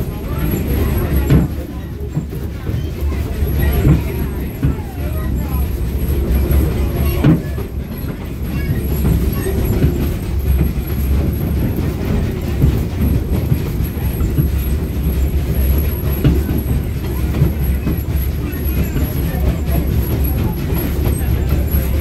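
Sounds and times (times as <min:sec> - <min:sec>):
train rumbling: 0:00.0 - 0:22.0
wheels clattering on rails: 0:00.0 - 0:22.0.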